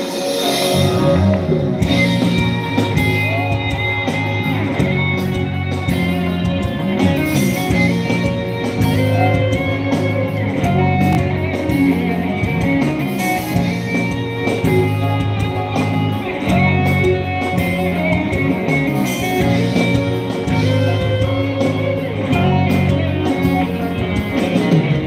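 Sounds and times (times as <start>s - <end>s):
drums: 0.0s - 25.0s
guitar: 0.0s - 25.0s
live band instrumental: 0.0s - 25.0s.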